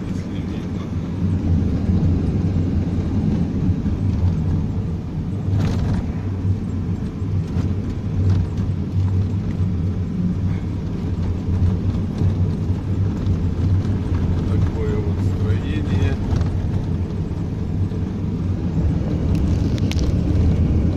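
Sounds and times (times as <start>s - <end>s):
tyres on road: 0.0s - 20.9s
vehicle engine rumble: 0.0s - 20.9s.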